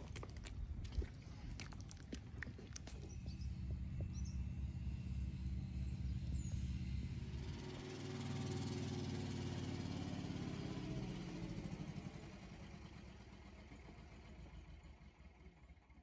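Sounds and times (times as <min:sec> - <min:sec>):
tractor engine running: 0:00.0 - 0:15.5.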